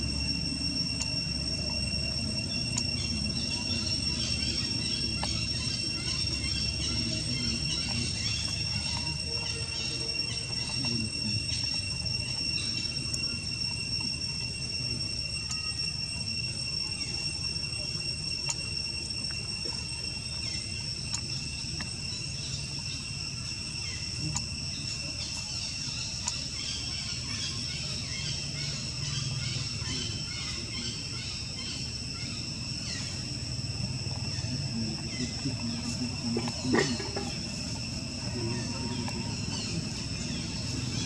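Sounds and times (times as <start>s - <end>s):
insect drone: 0.0s - 41.0s
low background rumble: 0.0s - 41.0s.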